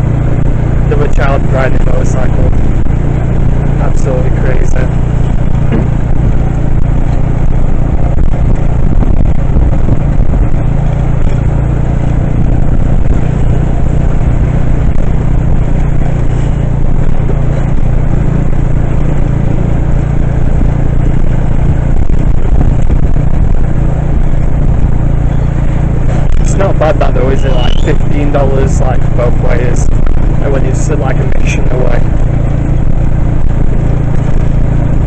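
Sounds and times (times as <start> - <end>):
motor vehicle rumbling: 0.0 - 35.0
traffic: 0.0 - 35.0.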